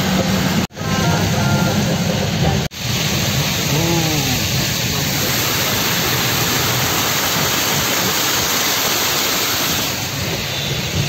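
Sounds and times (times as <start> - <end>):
heavy rain hissing: 0.0 - 11.0
vehicle wet road noise: 0.0 - 11.0.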